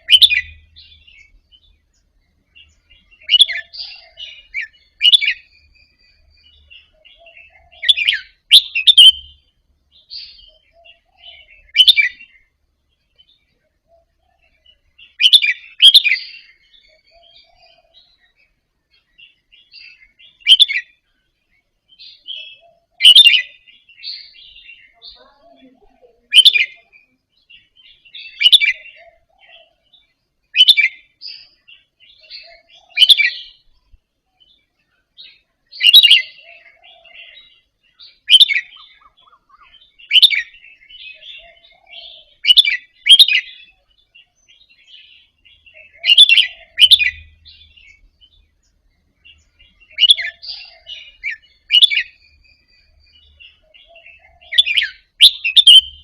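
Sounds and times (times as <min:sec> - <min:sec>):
bulbul singing: 0:00.0 - 0:56.0.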